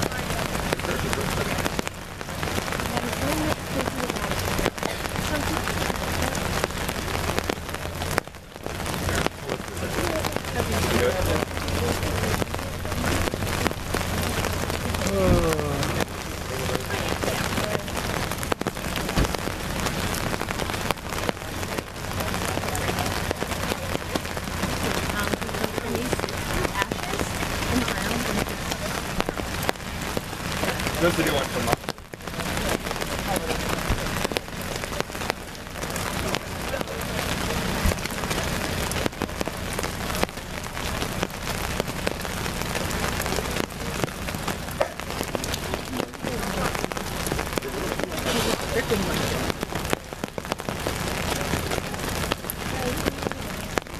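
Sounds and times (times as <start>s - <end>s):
raindrops pattering on umbrellas: 0.0s - 53.9s
steady rain falling: 0.0s - 53.9s.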